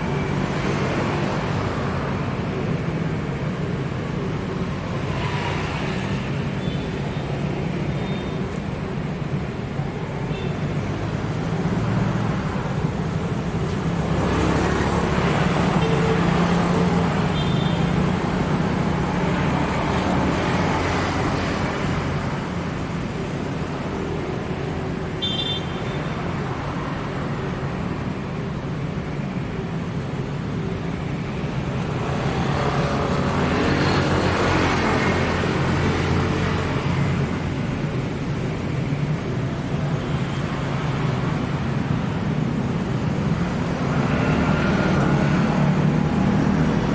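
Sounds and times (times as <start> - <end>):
road traffic engine hum: 0.0 - 46.9
vehicles passing close by: 0.0 - 46.9.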